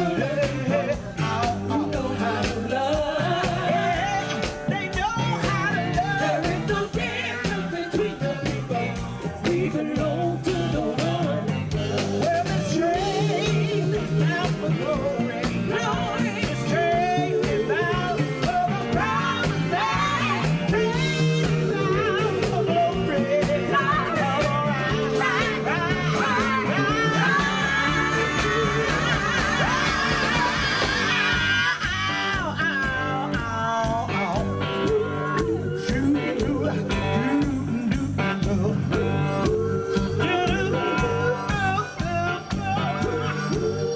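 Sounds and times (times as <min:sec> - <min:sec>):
women singing together: 0:00.0 - 0:32.8, 0:34.8 - 0:37.6, 0:39.0 - 0:43.9
live band with drums: 0:00.0 - 0:43.9.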